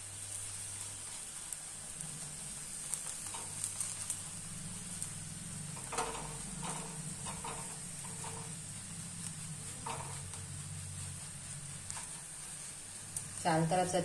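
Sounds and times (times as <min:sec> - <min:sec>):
light crackles: 0:00.0 - 0:13.9
oil sizzling on hot pan: 0:00.0 - 0:14.0.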